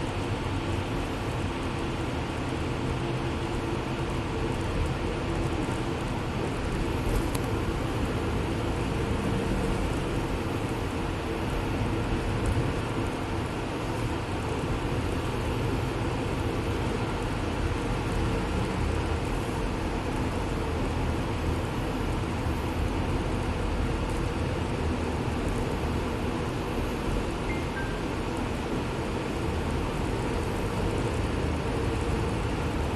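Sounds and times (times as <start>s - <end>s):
bus engine drone: 0.0s - 32.9s
faint drivetrain hum: 0.0s - 32.9s
road noise: 0.0s - 32.9s.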